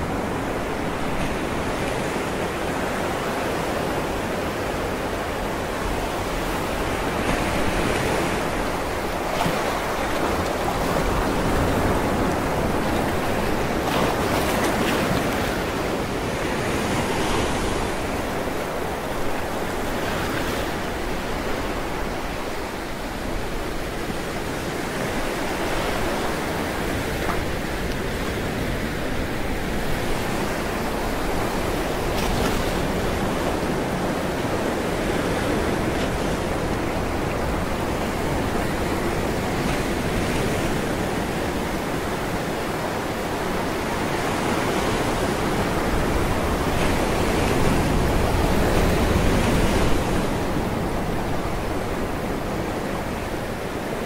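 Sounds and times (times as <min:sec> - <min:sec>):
waves crashing on rocks: 0:00.0 - 0:54.0.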